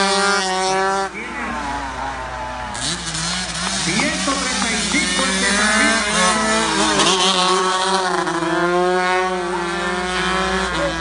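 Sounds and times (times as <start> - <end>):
racing motorcycle engines revving: 0.0 - 11.0.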